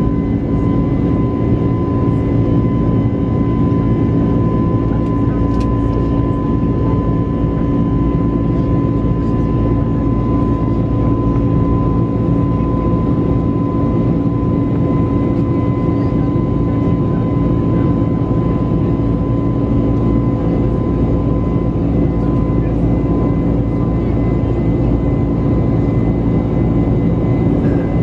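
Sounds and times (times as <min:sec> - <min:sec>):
jet engine drone in cabin: 0:00.0 - 0:28.0.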